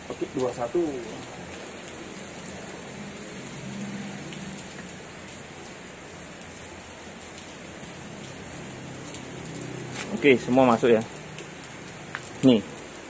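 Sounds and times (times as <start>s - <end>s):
steady rain-like hiss: 0.0s - 13.0s.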